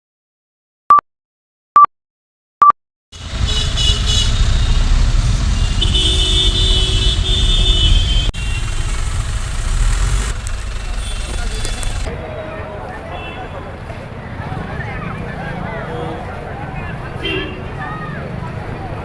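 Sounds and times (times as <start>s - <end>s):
rumbling traffic noise: 3.2s - 19.0s.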